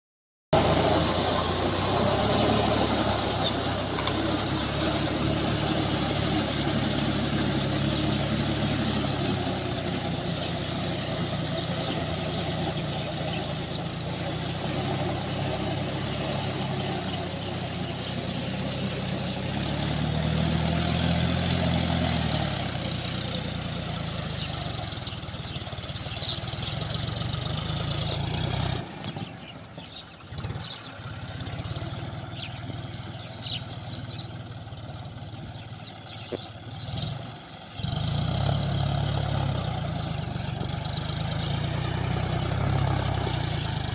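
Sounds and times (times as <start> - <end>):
tractor diesel engine running: 0.5 - 43.9.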